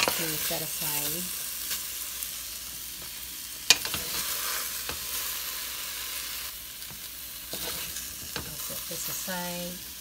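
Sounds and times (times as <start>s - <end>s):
eggplant sizzling in hot oil: 0.0s - 10.0s.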